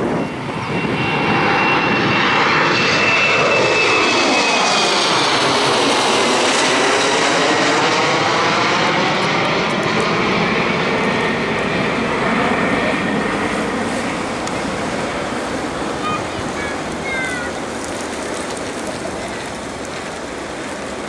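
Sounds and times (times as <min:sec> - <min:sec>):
jet roaring overhead: 0:00.0 - 0:21.0.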